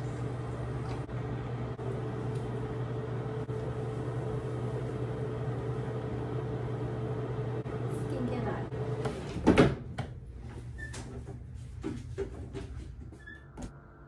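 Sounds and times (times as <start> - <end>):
appliance electrical hum: 0.0 - 14.0.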